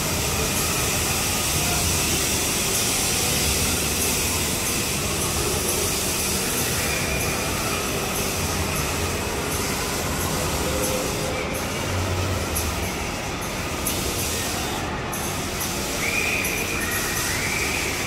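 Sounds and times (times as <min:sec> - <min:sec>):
kiddie ride train rumbling: 0:00.0 - 0:18.0.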